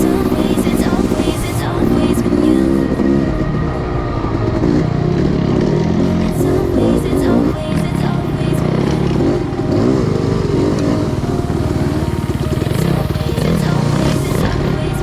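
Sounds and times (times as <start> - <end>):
dirt bike engine revving: 0.0 - 3.7, 4.4 - 15.0.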